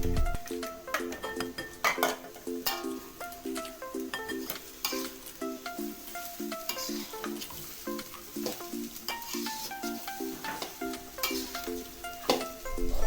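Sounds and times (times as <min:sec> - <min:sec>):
plucked background music: 0:00.0 - 0:13.0
food sizzling in a pan: 0:00.4 - 0:13.0.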